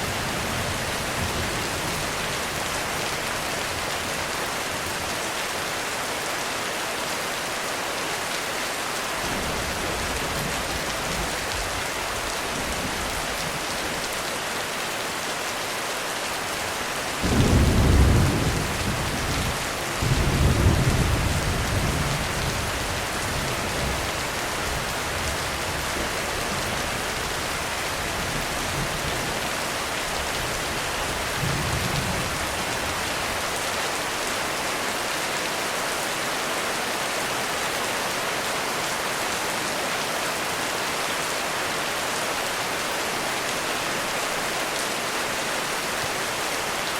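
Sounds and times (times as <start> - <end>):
heavy rain drumming on roof: 0.0 - 46.9.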